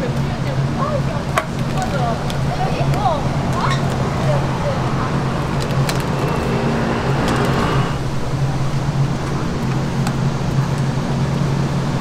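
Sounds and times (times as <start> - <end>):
low mechanical hum: 1.2 - 11.4.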